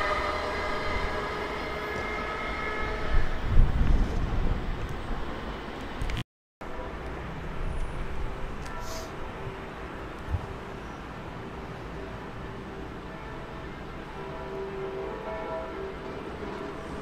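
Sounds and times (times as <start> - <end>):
train whine: 0.0 - 6.0, 6.6 - 17.0
train rumble: 0.0 - 17.0.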